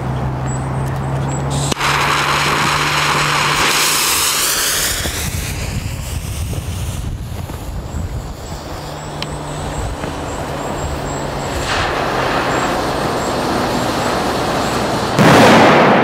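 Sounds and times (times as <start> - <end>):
low hum: 0.0 - 16.0
firecracker fuse hissing: 1.5 - 16.0.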